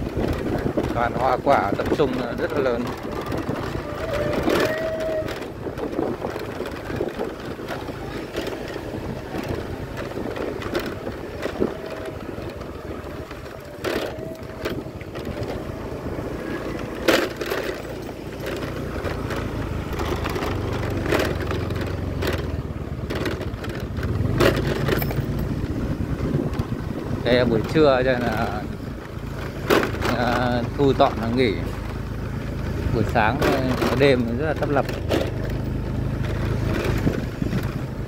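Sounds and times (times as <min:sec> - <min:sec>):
low traffic rumble: 0:00.0 - 0:38.0.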